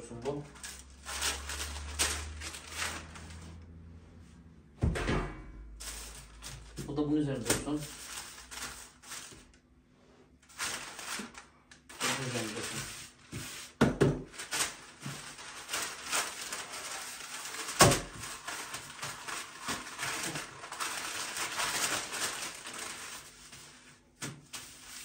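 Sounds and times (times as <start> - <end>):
baking paper rustling: 0.0 - 3.6, 5.6 - 9.6, 10.4 - 25.0.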